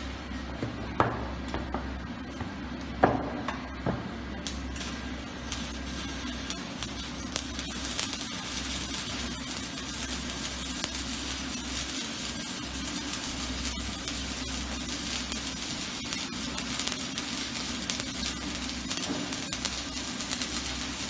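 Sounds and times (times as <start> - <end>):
welding arc sizzling and crackling: 0.0 - 21.0.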